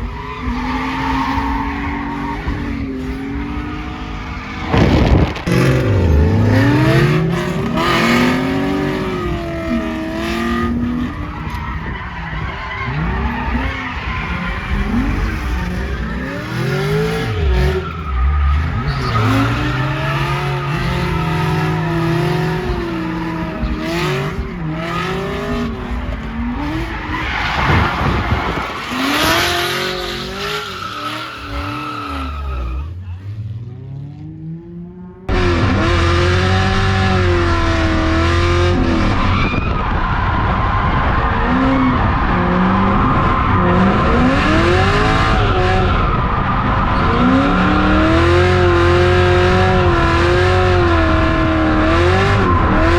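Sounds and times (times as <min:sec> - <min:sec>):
tyres squealing and skidding: 0:00.0 - 0:33.4, 0:35.3 - 0:52.9
car engine revving: 0:00.0 - 0:52.9.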